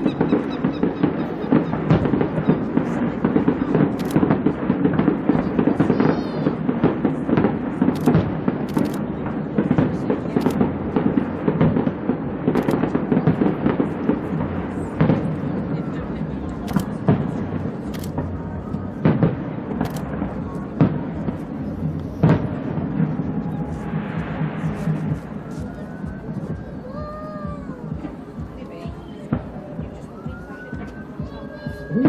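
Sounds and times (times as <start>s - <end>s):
crackle of bursting fireworks: 0.0s - 32.0s
fireworks bangs: 0.0s - 32.0s.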